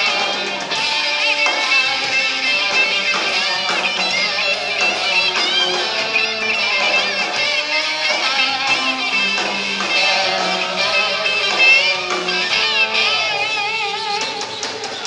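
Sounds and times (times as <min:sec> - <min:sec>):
drums: 0:00.0 - 0:15.0
electric guitars strumming: 0:00.0 - 0:15.0.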